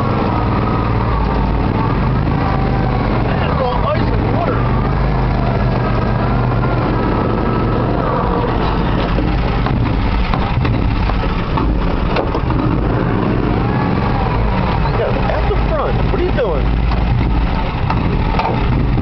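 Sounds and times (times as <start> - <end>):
vehicle engine droning under load: 0.0 - 19.0.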